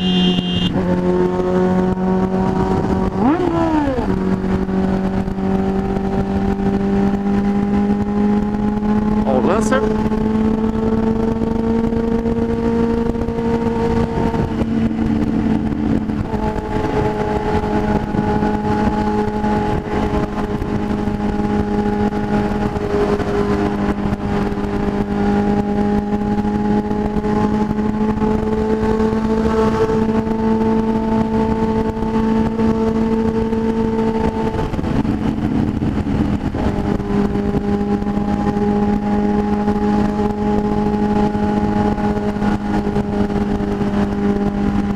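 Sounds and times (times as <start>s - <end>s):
motorcycle engine cruising: 0.0s - 44.9s
road and wind noise: 0.0s - 44.9s.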